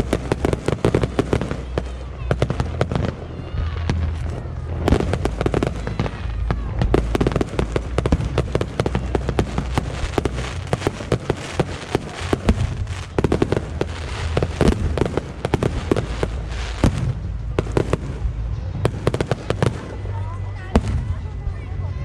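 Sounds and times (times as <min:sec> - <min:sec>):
fireworks shells bursting and crackling: 0:00.0 - 0:21.2
heavy fireworks booms: 0:00.0 - 0:21.8
low rumble: 0:00.0 - 0:22.0.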